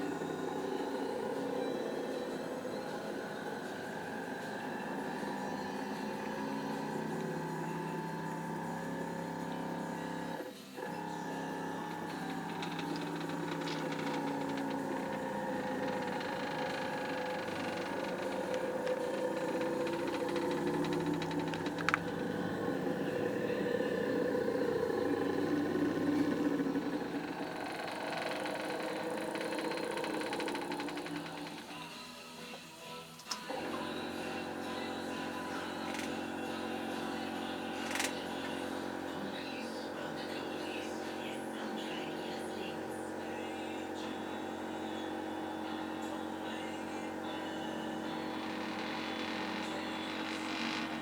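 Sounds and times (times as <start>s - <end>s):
cnc stepper motors whining: 0.0s - 31.9s, 33.5s - 51.0s.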